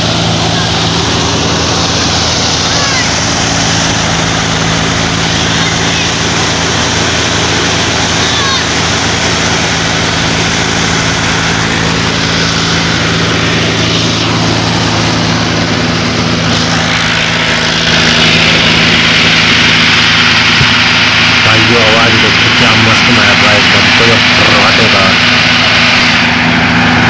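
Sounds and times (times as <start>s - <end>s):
diesel tractor engine running: 0.0s - 27.0s
threshing machine noise: 0.0s - 27.0s.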